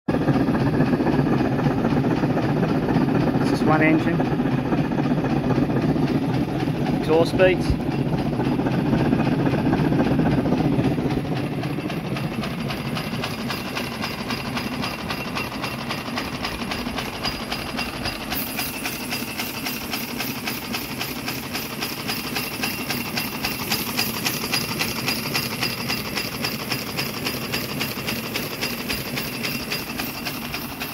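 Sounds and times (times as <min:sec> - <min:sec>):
cylinders and valve gear clatter: 0:00.1 - 0:30.9
steam locomotive exhaust beats: 0:00.1 - 0:30.9.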